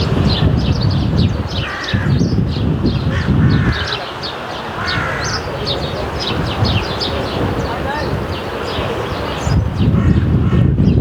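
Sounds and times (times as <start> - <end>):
harsh low bird calls: 0.0 - 11.0
sparrows chirping: 0.0 - 11.0.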